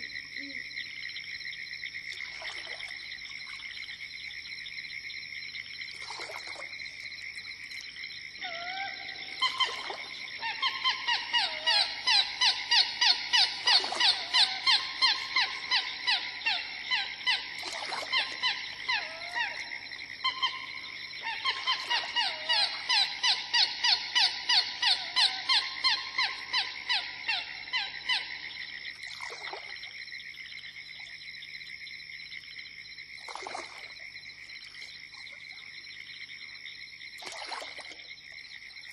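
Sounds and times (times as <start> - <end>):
chorus of frogs and insects: 0.0 - 38.9.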